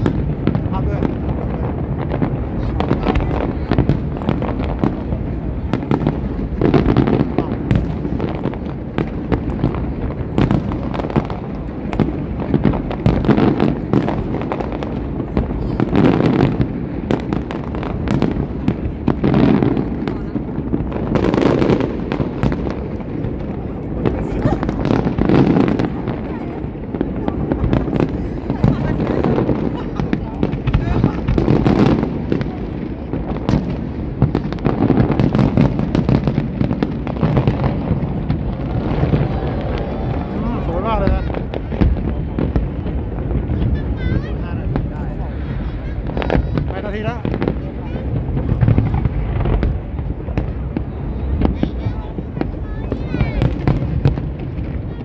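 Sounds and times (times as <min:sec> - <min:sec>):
fireworks bursts and crackles: 0:00.0 - 0:55.0.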